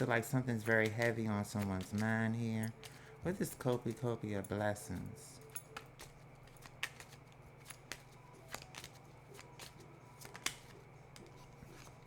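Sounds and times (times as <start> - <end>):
cards clicking and snapping: 0.0 - 4.0, 5.4 - 12.0
faint low hum: 0.0 - 12.0.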